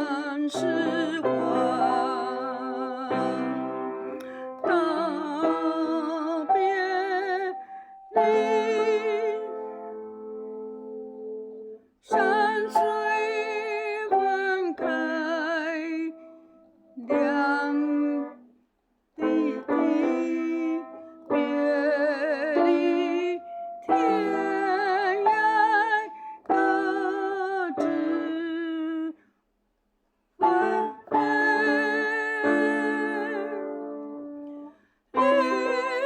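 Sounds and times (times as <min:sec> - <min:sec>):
person singing with vibrato: 0:00.0 - 0:10.6, 0:12.0 - 0:18.6, 0:19.2 - 0:29.3, 0:30.4 - 0:36.0.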